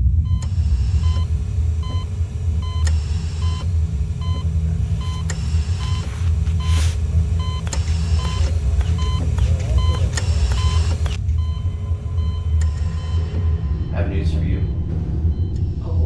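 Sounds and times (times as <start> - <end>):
loud low hum: 0.0 - 16.0
patient monitor beeping: 0.2 - 16.0.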